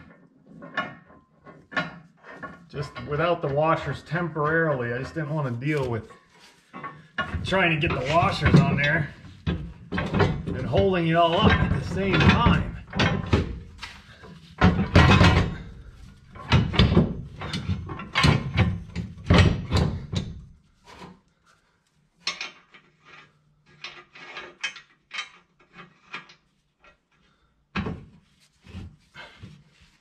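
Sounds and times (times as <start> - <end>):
metal bolts clanking and rattling: 0.0 - 20.6, 22.2 - 27.0.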